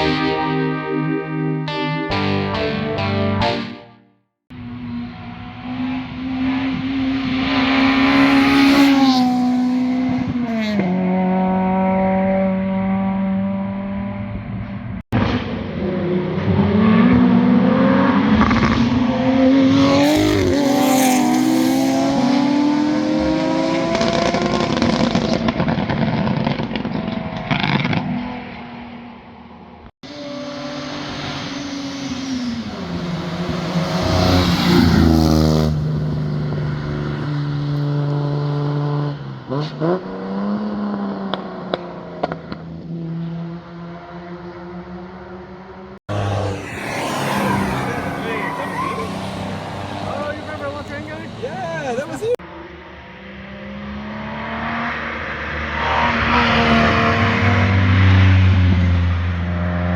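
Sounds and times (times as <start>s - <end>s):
sports cars passing at speed: 4.5s - 59.9s.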